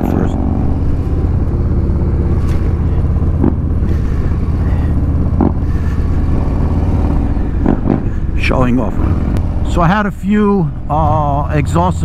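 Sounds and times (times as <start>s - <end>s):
motorcycle exhaust rumble: 0.0s - 12.0s.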